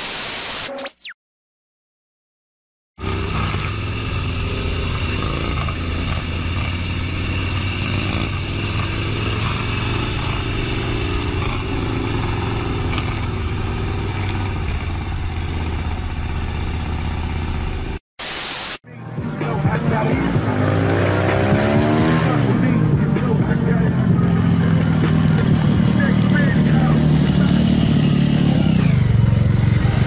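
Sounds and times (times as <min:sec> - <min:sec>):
motorcycle engine droning: 0:03.0 - 0:18.0, 0:19.0 - 0:30.0.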